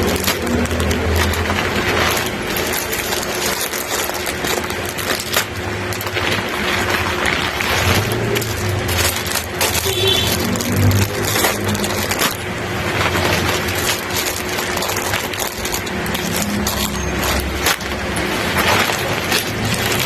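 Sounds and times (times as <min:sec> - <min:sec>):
packaged goods clinking and knocking: 0:00.0 - 0:20.0
packaging rustling: 0:00.0 - 0:20.0.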